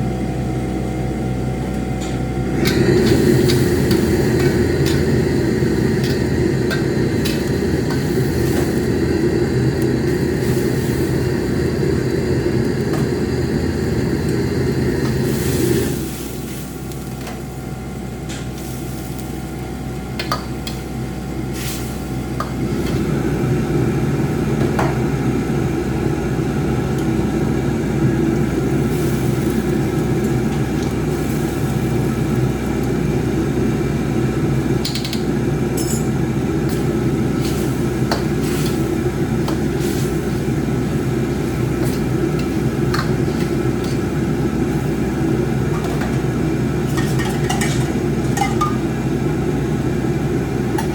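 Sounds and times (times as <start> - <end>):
gas burner roaring under wok: 0.0 - 50.9.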